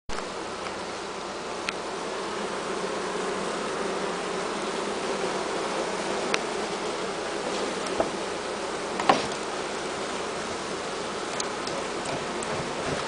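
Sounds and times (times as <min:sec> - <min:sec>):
bees buzzing: 0:00.1 - 0:13.0.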